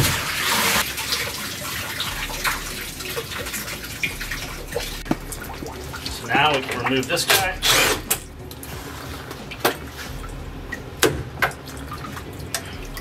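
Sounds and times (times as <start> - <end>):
water pouring and splashing: 0.0 - 13.0.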